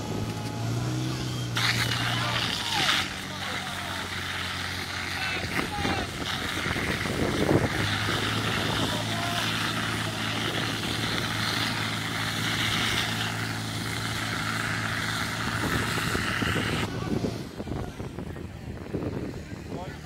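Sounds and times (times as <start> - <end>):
pump engine running: 0.0 - 20.0.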